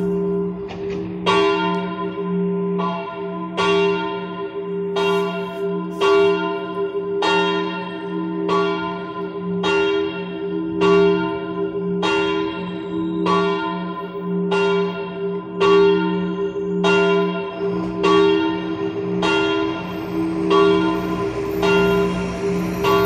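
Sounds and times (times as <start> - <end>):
church bell ringing: 0.0 - 23.0.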